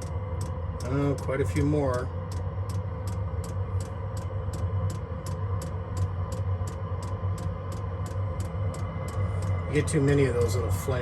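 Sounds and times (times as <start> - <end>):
heater blower humming: 0.0 - 11.0.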